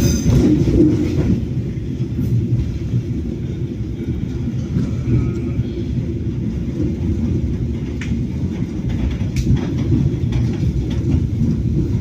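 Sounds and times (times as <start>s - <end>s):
train carriage rumbling: 0.0s - 12.0s.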